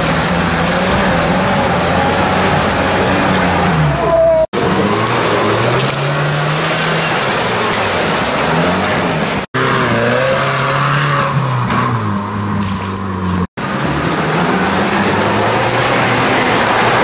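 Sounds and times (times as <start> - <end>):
off-road engines revving: 0.0 - 17.0
vehicles driving through mud: 0.0 - 17.0.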